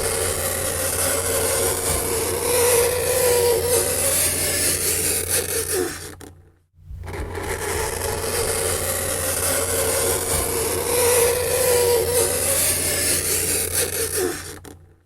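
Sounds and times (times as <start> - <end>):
fingernails scraping chalkboard: 0.0 - 6.3, 7.0 - 14.7.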